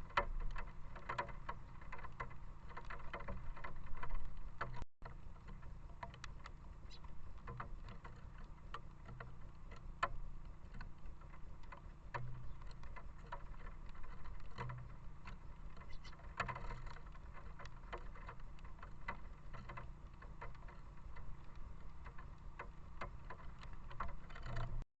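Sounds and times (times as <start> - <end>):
low steady rumble: 0.0 - 24.8.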